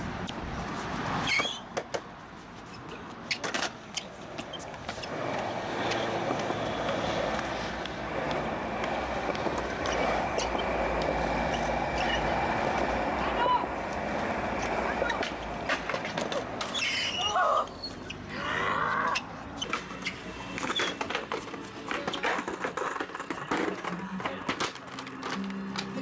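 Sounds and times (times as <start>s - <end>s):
skateboard wheels rolling on concrete: 0.0s - 26.0s.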